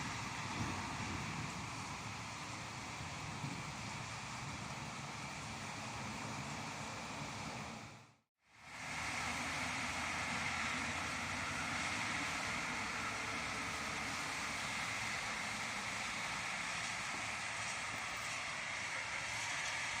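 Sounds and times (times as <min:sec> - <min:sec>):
rain hissing: 0:00.0 - 0:20.0
wind: 0:00.0 - 0:20.0.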